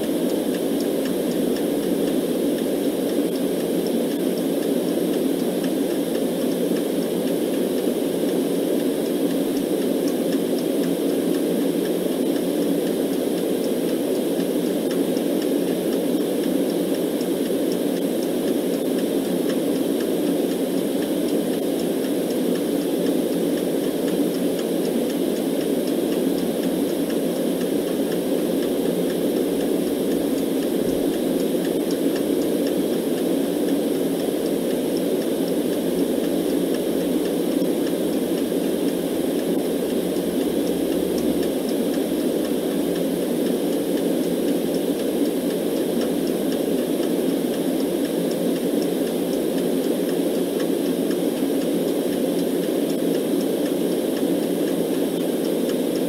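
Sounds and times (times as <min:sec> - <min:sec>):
clock ticking faintly: 0:00.0 - 0:56.0
deep muffled white noise: 0:00.0 - 0:56.0.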